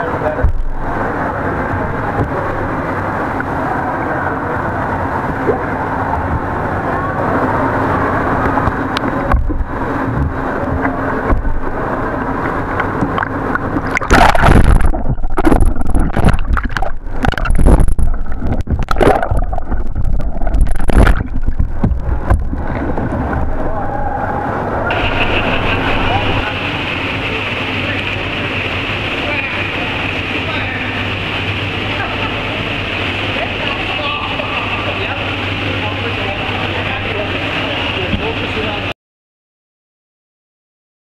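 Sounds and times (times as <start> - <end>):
kayak on pool water: 0.0 - 38.9
water splashing and sloshing: 0.1 - 38.9.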